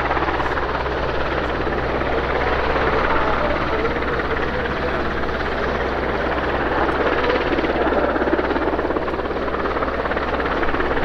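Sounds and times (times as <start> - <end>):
helicopter rotor blades chopping: 0.0 - 11.0
turbine engines running: 0.0 - 11.0.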